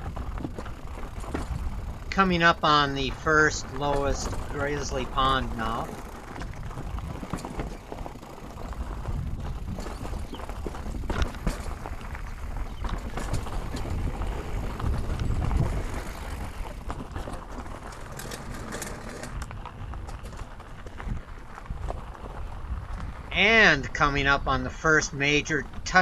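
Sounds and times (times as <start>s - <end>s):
wind on microphone: 0.0s - 24.7s
bike rattling over rocks: 0.0s - 26.0s.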